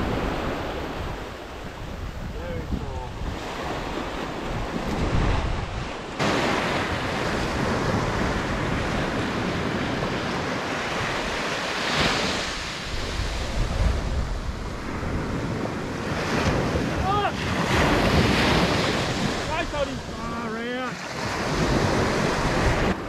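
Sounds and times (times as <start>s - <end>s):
surf washing up beach: 0.0s - 23.0s
wind buffeting microphone: 0.0s - 23.0s.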